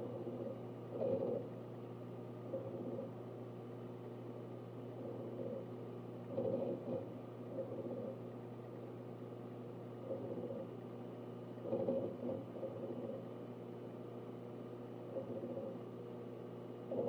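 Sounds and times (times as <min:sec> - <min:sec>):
fans and drives humming: 0:00.0 - 0:17.0
hard drive seek chatter: 0:00.0 - 0:17.0.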